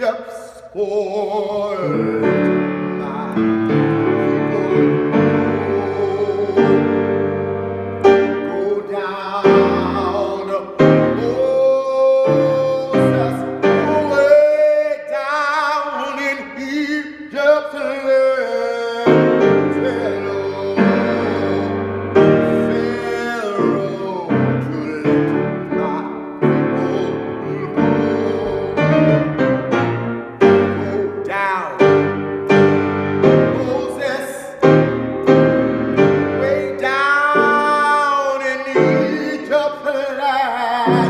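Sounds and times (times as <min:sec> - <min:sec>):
grand piano chords: 0:00.0 - 0:41.0
man singing: 0:00.0 - 0:41.0.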